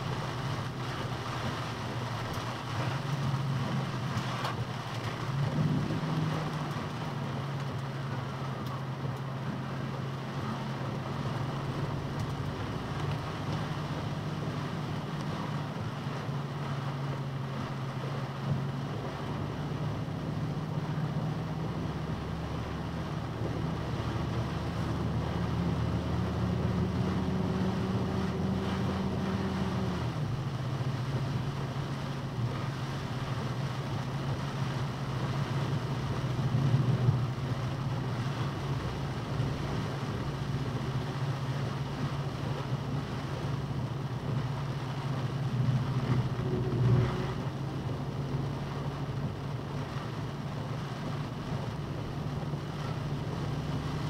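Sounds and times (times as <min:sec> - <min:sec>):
rain and wet road hiss: 0:00.0 - 0:54.0
truck engine from inside cab: 0:00.0 - 0:54.0.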